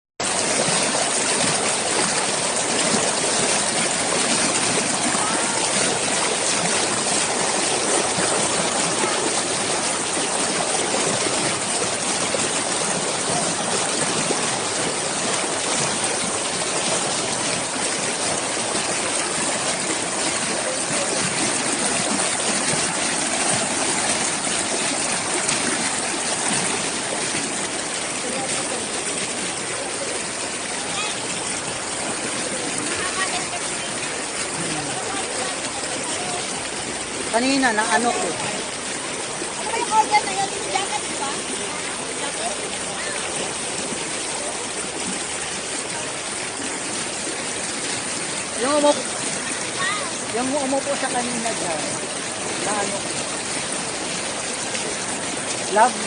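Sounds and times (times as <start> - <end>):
stream water rushing: 0.2 - 56.0.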